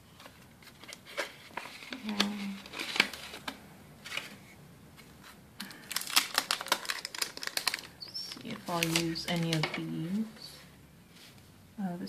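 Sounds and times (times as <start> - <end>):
paper rustling and crinkling: 0.0 - 10.4.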